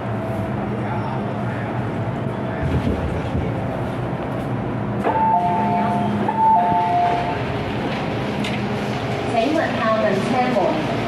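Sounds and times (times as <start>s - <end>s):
train running hum: 0.0s - 11.0s.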